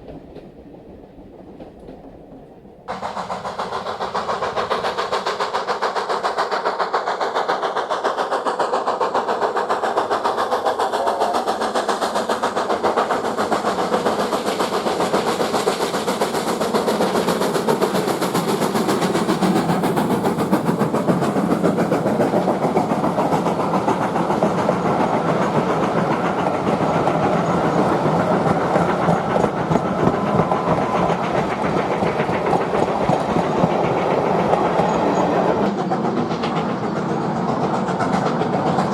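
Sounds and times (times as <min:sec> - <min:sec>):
steam locomotive exhaust: 0:02.8 - 0:38.9.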